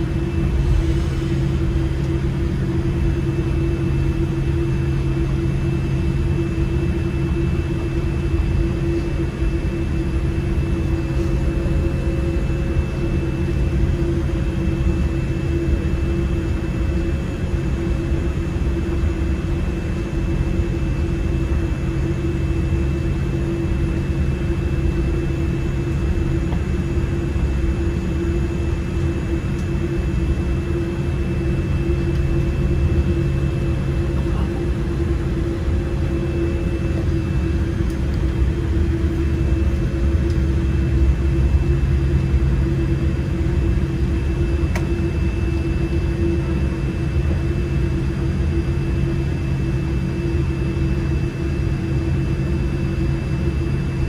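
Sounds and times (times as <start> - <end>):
airplane engines idling: 0.0 - 54.0.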